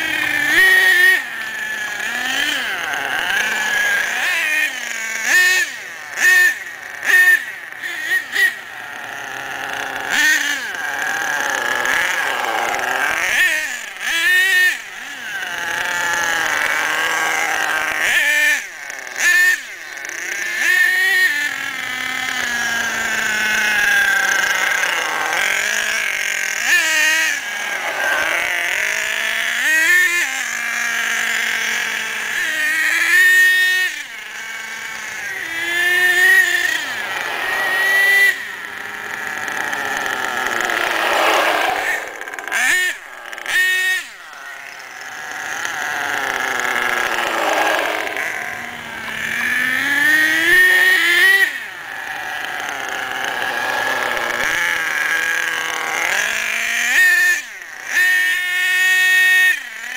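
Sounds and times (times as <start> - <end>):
nitro engine revving: 0.0 - 59.9.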